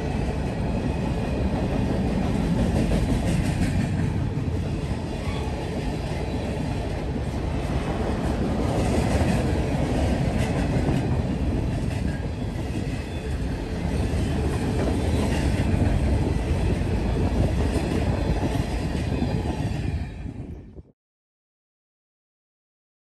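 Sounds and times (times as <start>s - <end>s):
freight train wheels rumbling: 0.0s - 20.9s.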